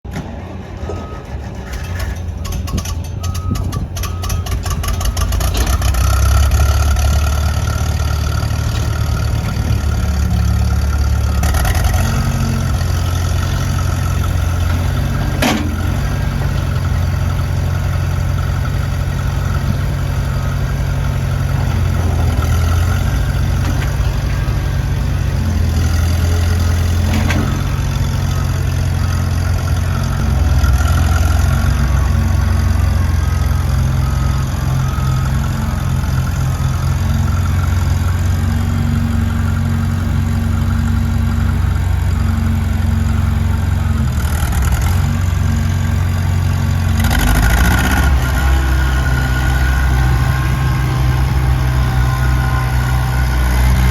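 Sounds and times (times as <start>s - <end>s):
tractor engine idling: 0.2s - 53.9s.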